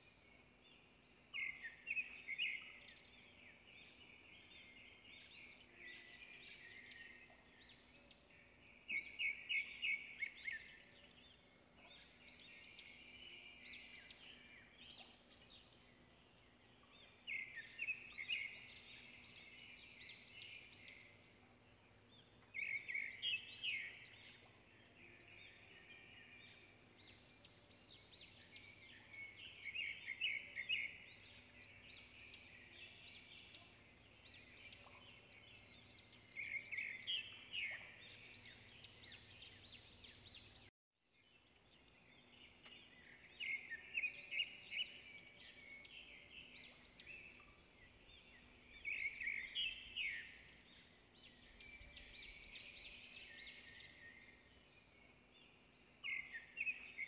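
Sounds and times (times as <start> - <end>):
faint bird chirping: 0.0 - 57.0.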